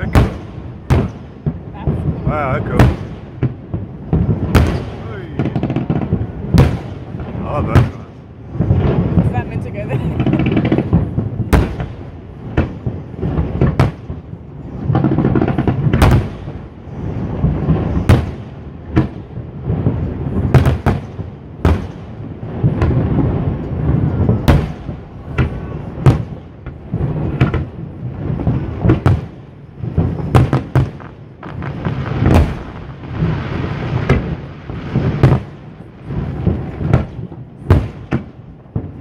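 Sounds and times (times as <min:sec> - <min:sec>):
fireworks bursting: 0:00.0 - 0:39.0
low rolling rumble: 0:00.0 - 0:39.0.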